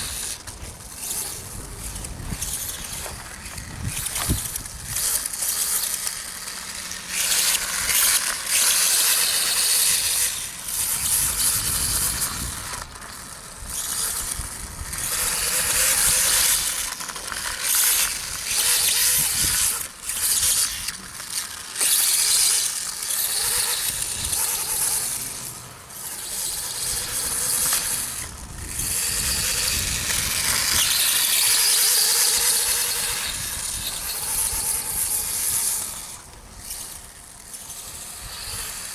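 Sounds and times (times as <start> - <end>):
electric rc bike whine: 0.0 - 38.9.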